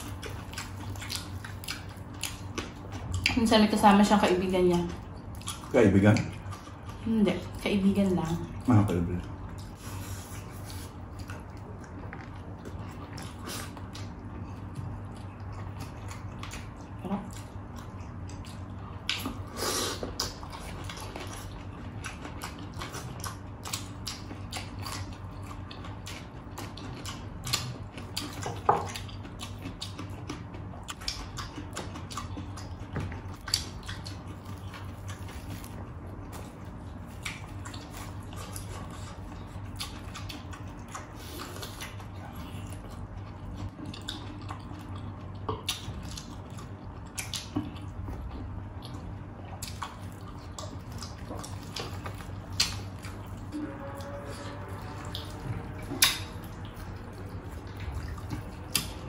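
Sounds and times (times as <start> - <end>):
chewing and wet smacks: 0.0 - 59.0
steady low hum: 0.0 - 59.0.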